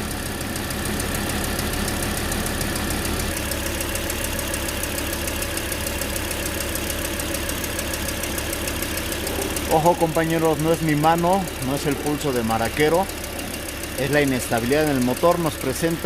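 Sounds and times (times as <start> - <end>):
car engine idling unevenly: 0.0 - 16.0.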